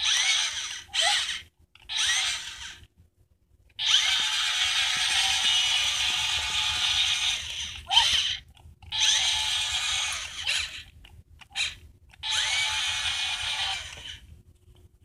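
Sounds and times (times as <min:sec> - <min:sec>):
toy scooter motor whirring: 0:00.0 - 0:02.9, 0:03.8 - 0:14.3.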